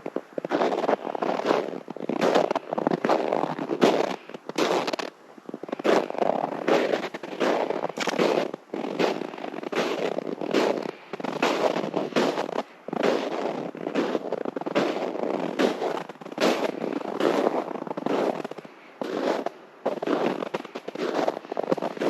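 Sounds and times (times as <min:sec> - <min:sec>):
footsteps crunching frozen snow: 0:00.0 - 0:22.0.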